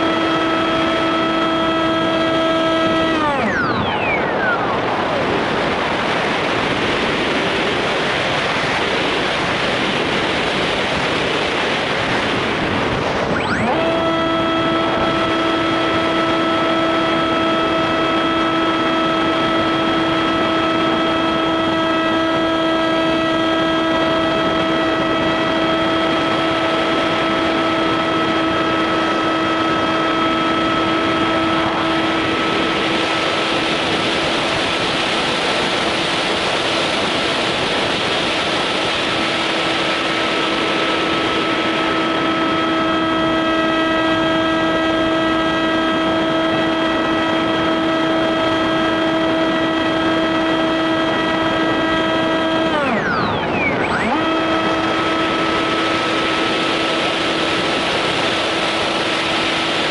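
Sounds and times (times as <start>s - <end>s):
model plane motor whining: 0.0s - 10.5s, 11.2s - 59.9s
wind rushing over microphone: 0.0s - 59.9s.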